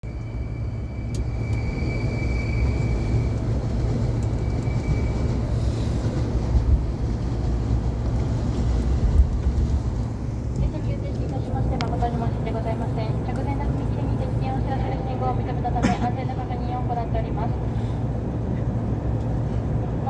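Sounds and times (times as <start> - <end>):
train carriage rumble: 0.0 - 20.0.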